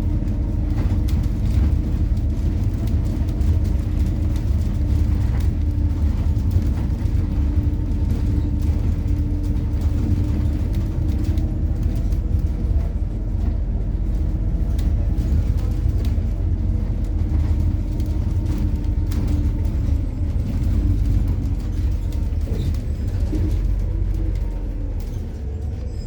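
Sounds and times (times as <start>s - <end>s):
bus engine and road drone: 0.0s - 26.0s
light rattles: 0.2s - 25.7s.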